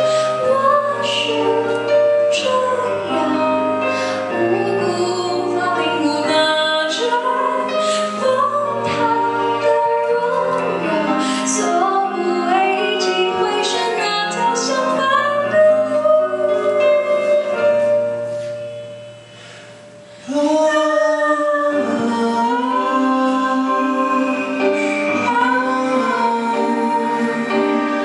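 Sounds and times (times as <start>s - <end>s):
woman singing a pop ballad: 0.0s - 18.0s, 20.3s - 28.0s
instrumental backing music: 0.0s - 28.0s.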